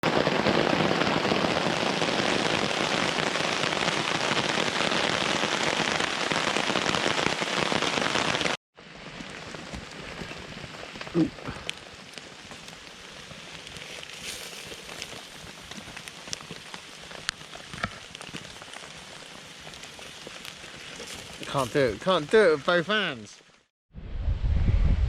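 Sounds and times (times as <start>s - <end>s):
heavy rain hissing: 0.0s - 23.6s.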